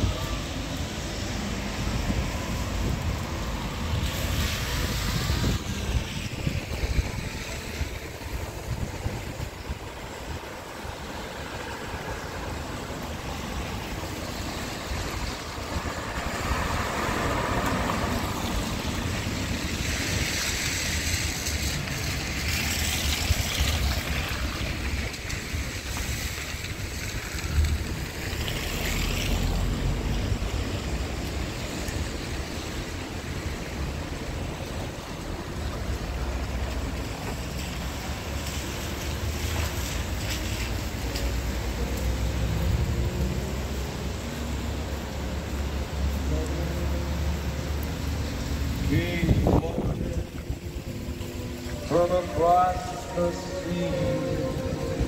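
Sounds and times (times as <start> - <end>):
tyres hissing on wet road: 0.0 - 55.0
wind rumble on microphone: 0.0 - 55.0.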